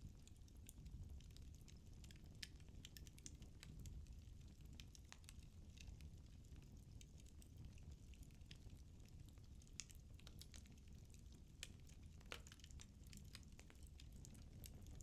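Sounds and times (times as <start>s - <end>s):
low rumble of flame: 0.0s - 15.0s
firewood crackling and popping: 0.2s - 15.0s.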